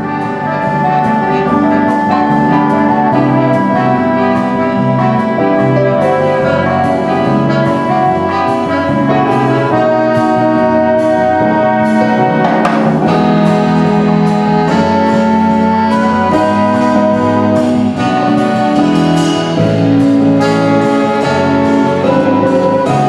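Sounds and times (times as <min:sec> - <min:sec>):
jazz big band playing: 0:00.0 - 0:23.0.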